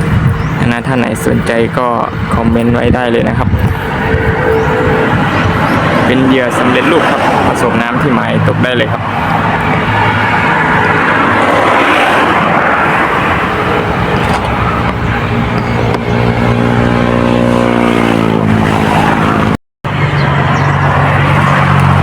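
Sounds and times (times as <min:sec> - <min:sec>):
engine running: 0:02.0 - 0:22.0.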